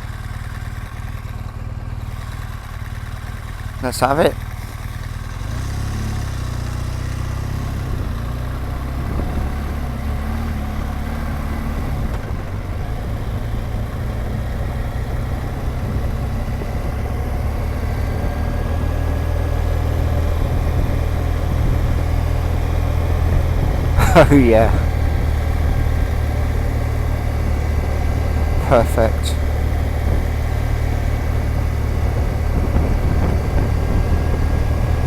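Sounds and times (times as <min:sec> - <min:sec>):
motorcycle engine droning: 0:00.0 - 0:35.0.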